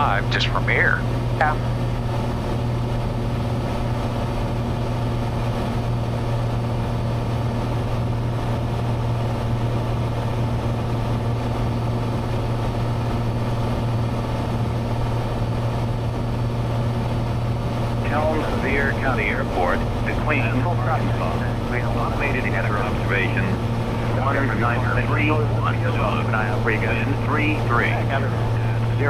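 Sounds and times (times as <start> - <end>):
airplane engine droning in cabin: 0.0 - 29.0.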